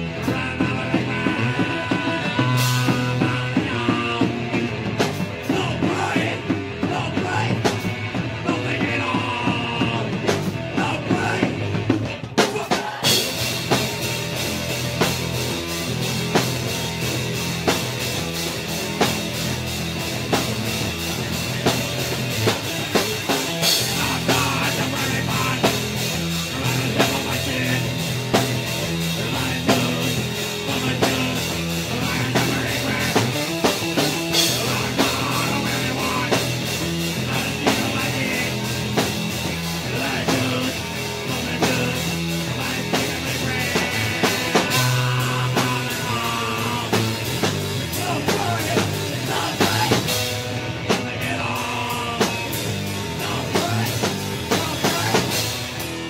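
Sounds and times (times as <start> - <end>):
drum kit playing a beat: 0.0 - 56.0
electric bass guitar: 0.0 - 56.0.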